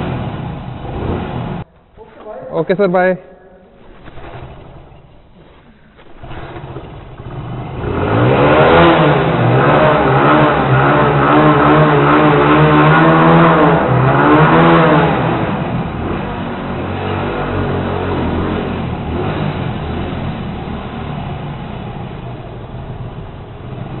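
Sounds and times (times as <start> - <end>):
motorcycle engine accelerating: 0.0 - 1.7, 3.8 - 24.0.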